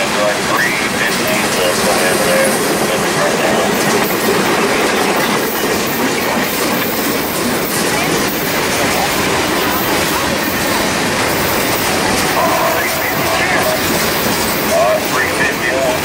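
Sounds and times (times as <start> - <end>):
steel wheels running on rails: 0.0 - 16.0.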